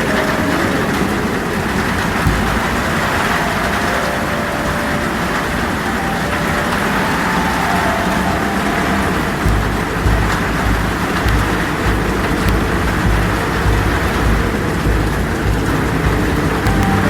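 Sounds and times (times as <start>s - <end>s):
heavy rain on tin roof: 0.0s - 17.0s.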